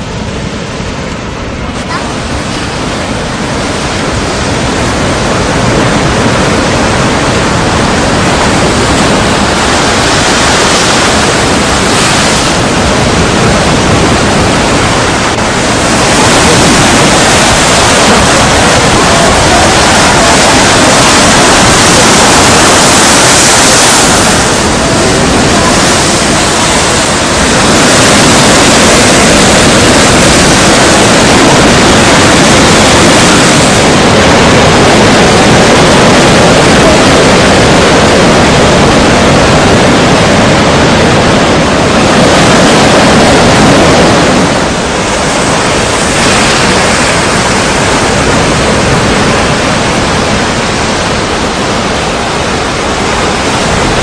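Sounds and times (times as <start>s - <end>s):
sea surf: 0.0s - 54.0s
strong wind on microphone: 0.0s - 54.0s.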